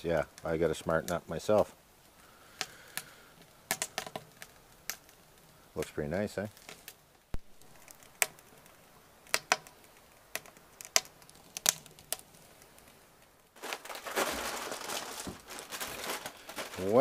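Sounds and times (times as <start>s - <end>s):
wood fire crackling and popping: 0.0s - 17.0s
rustling and crinkling: 0.1s - 17.0s.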